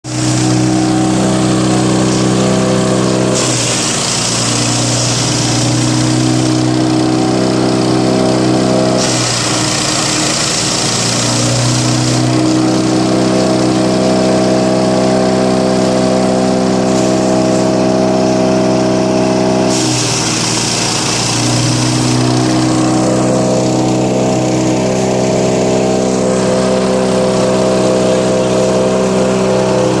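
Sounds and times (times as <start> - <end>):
wood chipper cutter hissing: 0.0 - 30.0
petrol engine running: 0.1 - 30.0.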